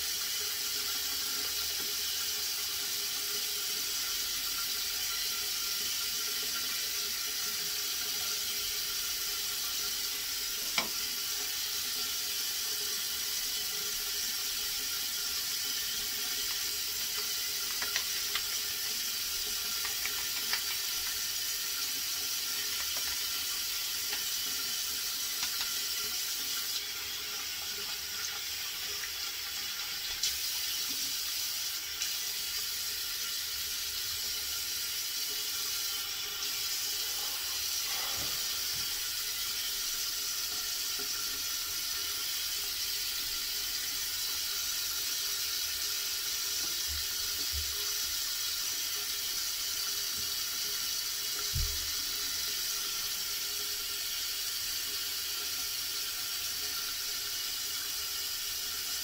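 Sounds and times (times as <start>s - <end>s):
tap water running into sink: 0.0s - 59.0s.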